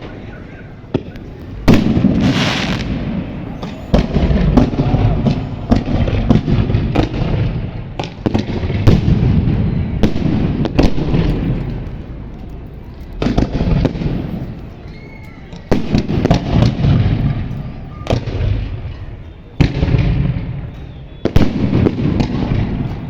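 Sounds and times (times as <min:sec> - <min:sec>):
fireworks bangs: 0:00.0 - 0:23.0
fireworks crackle: 0:00.0 - 0:23.0.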